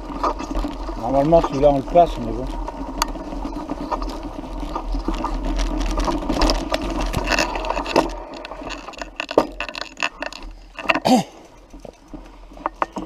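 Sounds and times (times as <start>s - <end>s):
bike rattles and clicks: 0.0s - 13.0s
bike tyres rumbling on dirt: 0.0s - 13.0s.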